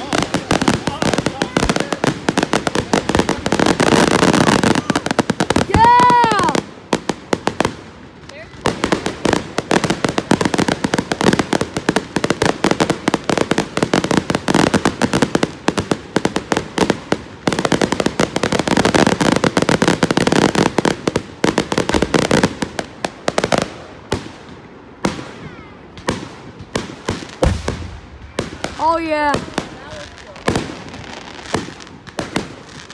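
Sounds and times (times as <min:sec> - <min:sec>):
fireworks bursting and crackling: 0:00.0 - 0:32.9.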